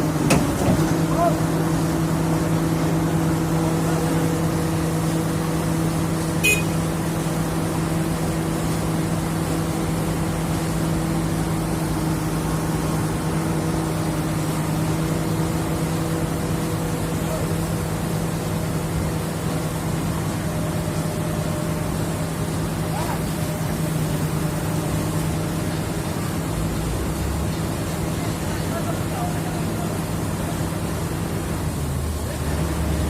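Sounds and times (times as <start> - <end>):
engine humming steadily: 0.0 - 33.0.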